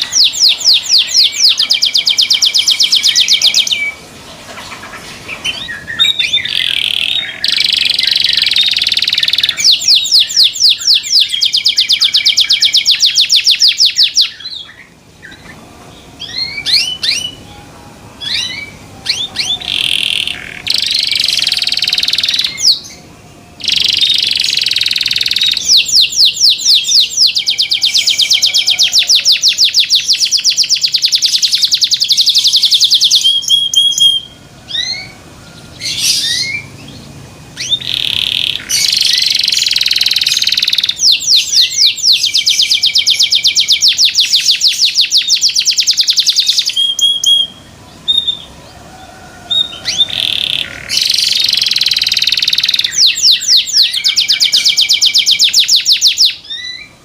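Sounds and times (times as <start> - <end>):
canary chirps: 0.0 - 48.7, 49.4 - 57.0
canary singing trills: 0.0 - 57.0.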